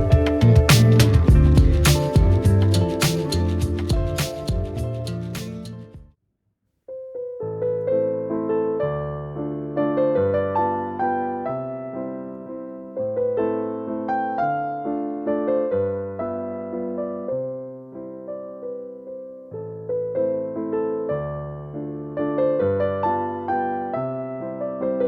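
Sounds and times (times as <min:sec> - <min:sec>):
soft piano music: 0:00.0 - 0:06.0, 0:06.9 - 0:25.0.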